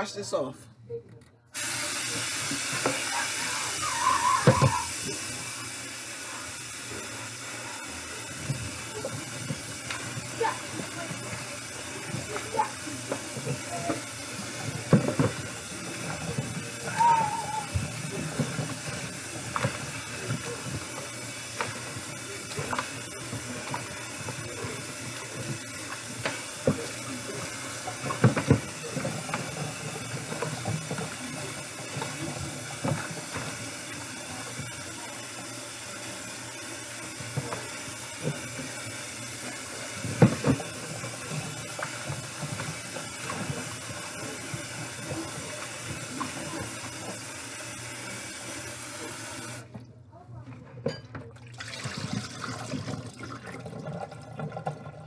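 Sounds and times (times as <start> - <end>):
tap running into bowl: 1.6 - 3.3, 4.2 - 5.5, 8.1 - 49.9, 50.7 - 55.0.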